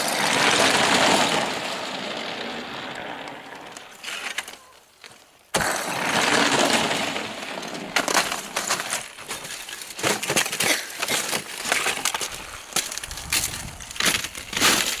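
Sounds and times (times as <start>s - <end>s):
ice crunching and cracking: 0.0s - 15.0s.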